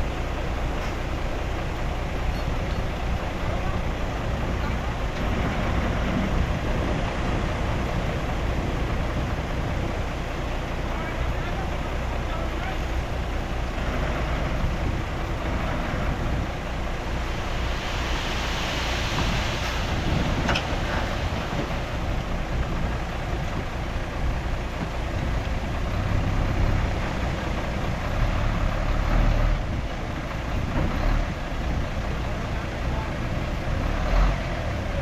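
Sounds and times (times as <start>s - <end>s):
heavy diesel machinery rumbling: 0.0s - 35.0s.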